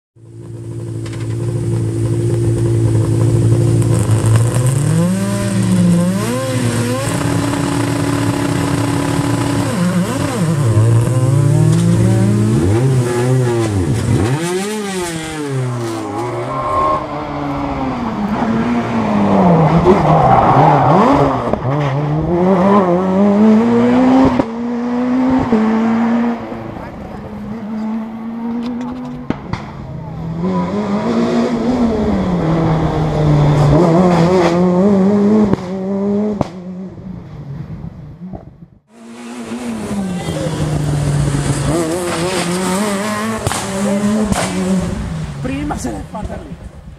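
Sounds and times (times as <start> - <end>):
rally car engine revving: 0.2 - 46.8.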